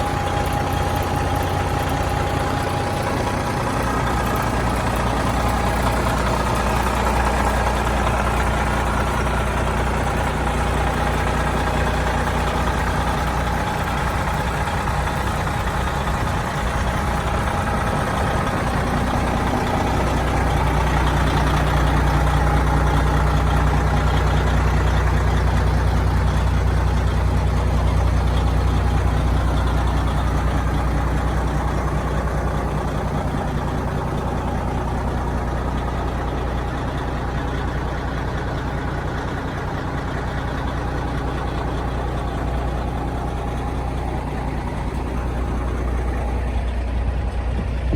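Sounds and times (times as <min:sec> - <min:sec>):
truck diesel engine idling: 0:00.0 - 0:47.9.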